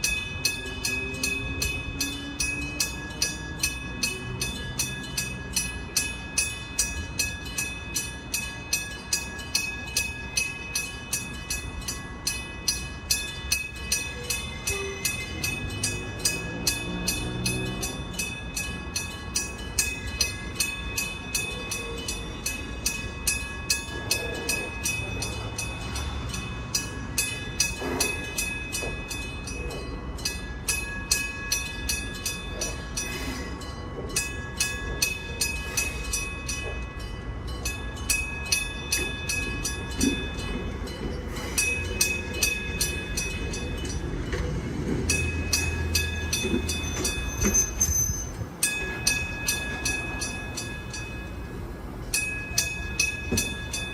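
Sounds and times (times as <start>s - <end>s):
low rumble of passing train: 0.0s - 53.9s
railroad crossing bell ringing: 0.0s - 53.9s.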